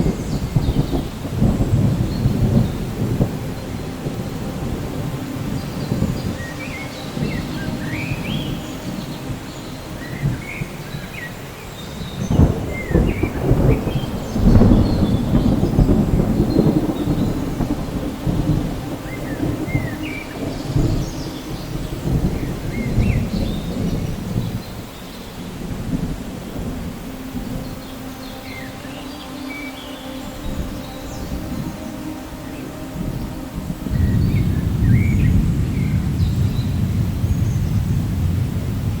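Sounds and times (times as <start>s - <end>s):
thunder crack: 0.0s - 10.7s, 12.2s - 24.8s, 30.4s - 39.0s
steady rain: 0.0s - 39.0s
thunder rumbling: 0.0s - 39.0s.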